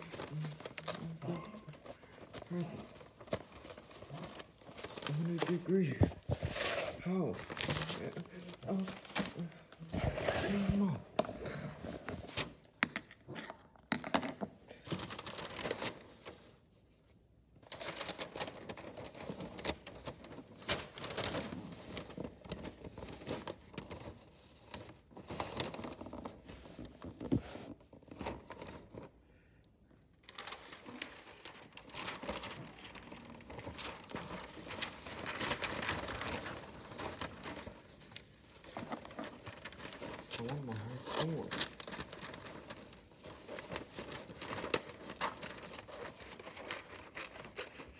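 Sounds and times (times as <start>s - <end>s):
wrapping paper rustling: 0.0s - 12.7s, 14.8s - 16.9s, 17.6s - 47.9s.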